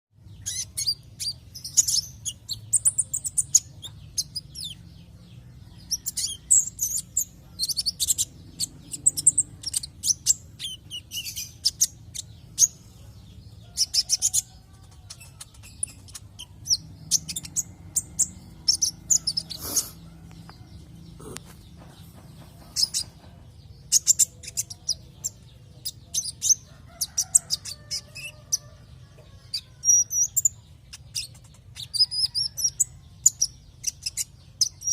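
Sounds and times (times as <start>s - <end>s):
bird chirps and twittering trills: 0.2s - 34.9s.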